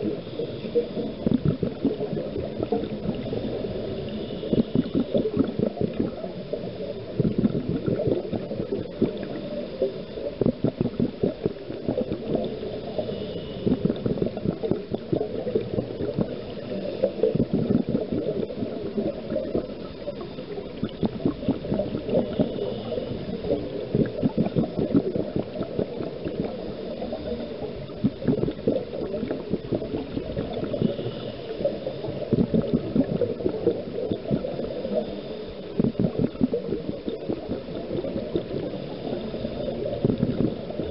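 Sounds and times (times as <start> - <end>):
underwater regulator bubbling: 0.0 - 40.9.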